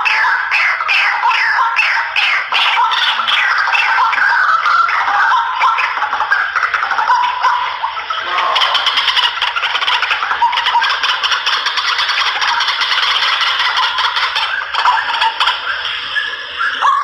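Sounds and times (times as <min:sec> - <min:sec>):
bird call with rapid harsh notes: 0:00.0 - 0:17.0.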